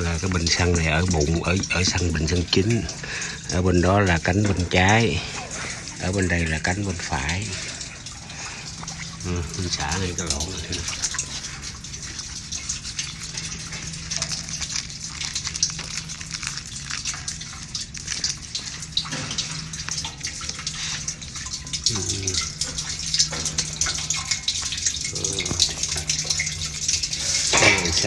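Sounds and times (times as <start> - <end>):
liquid pouring into a container: 0.0 - 28.0.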